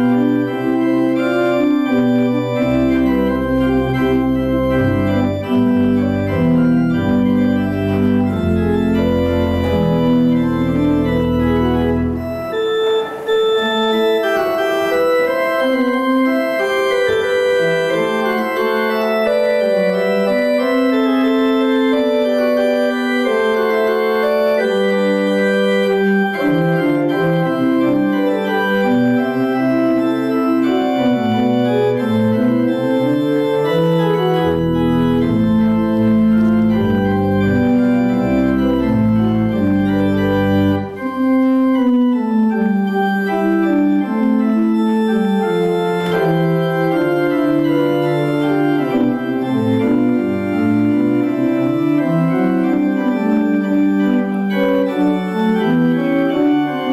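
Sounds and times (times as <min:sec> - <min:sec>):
deep organ pedal bass notes: 0:00.0 - 0:56.9
organ playing slow chords: 0:00.0 - 0:56.9.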